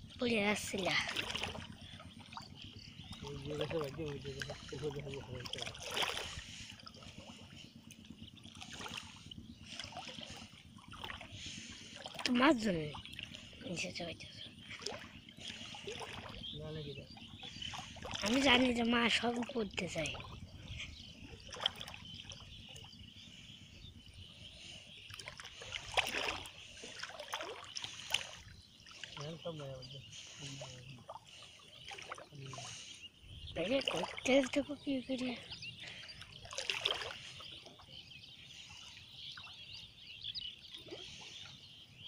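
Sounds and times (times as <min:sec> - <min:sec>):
small water splashes: 0:00.0 - 0:42.0
water trickling and sloshing: 0:00.0 - 0:42.0.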